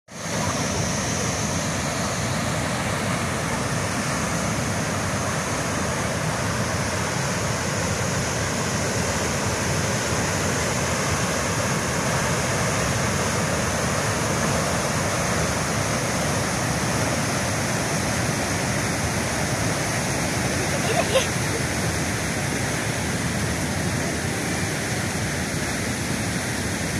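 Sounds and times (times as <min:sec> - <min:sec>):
white water rushing through weir: 0:00.1 - 0:26.9.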